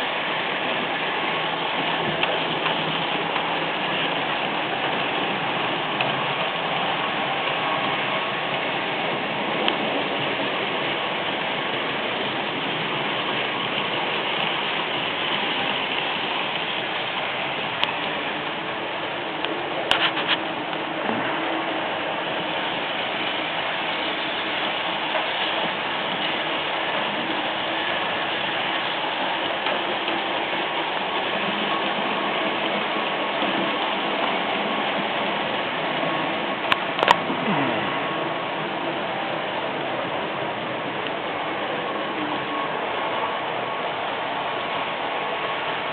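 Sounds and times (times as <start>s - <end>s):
model train whirring on track: 0.0s - 45.9s.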